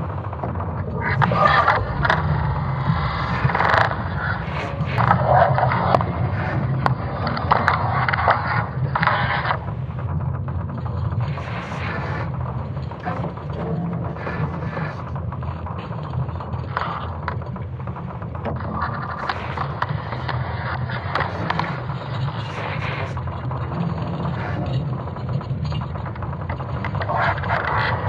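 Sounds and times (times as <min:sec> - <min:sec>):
cracks and creaks: 0:00.0 - 0:28.0
deep rumble: 0:00.0 - 0:28.0.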